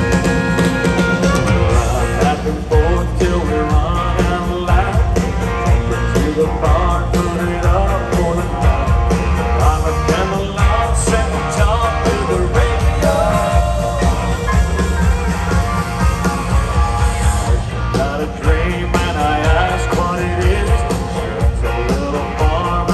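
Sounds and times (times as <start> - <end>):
live country band playing: 0.0 - 22.9
man singing: 1.6 - 14.6, 17.1 - 22.9.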